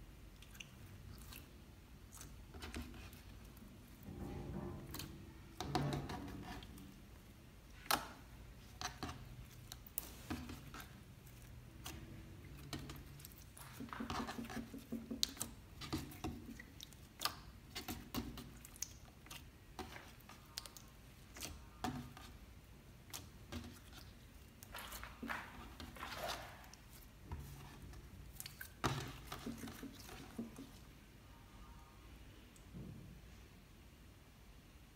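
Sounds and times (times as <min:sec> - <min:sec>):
slime squelching and crackling: 0:00.2 - 0:30.8.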